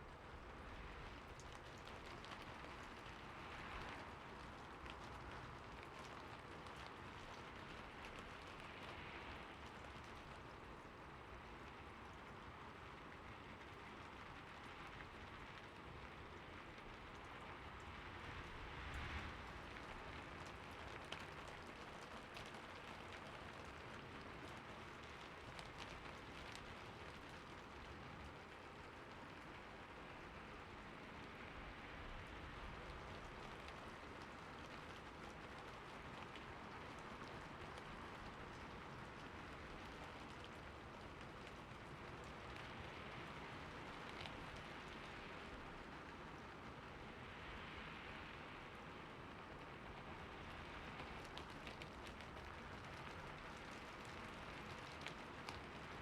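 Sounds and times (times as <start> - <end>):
soft rain hiss: 0.0 - 56.0
raindrop ticks: 0.1 - 56.0.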